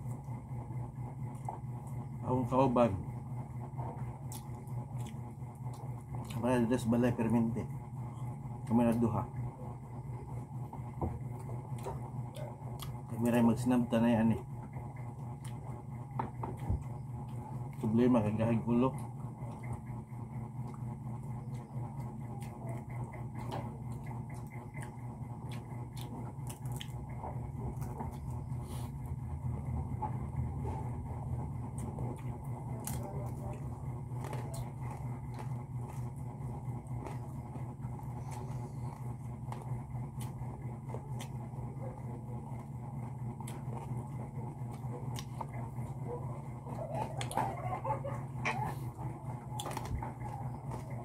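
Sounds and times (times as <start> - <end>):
chewing: 0.0 - 2.2, 3.6 - 7.3, 7.9 - 13.7, 14.5 - 51.0
fingers working food in bowls: 0.0 - 51.0
steady low hum: 0.0 - 51.0.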